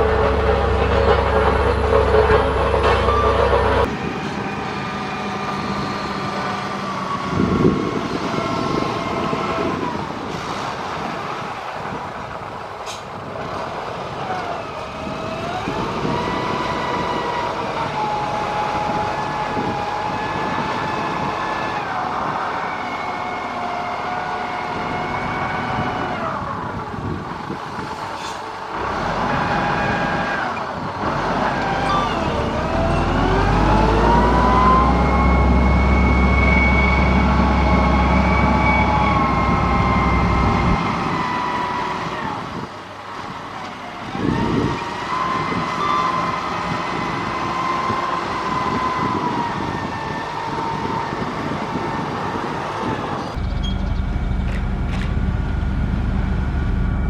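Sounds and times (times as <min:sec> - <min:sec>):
diesel engine whining under load: 0:00.0 - 0:57.0.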